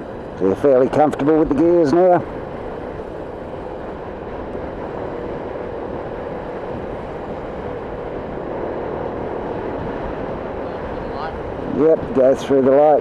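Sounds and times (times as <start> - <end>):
motorcycle engine hum: 0.0 - 13.0
wind and road noise: 0.0 - 13.0.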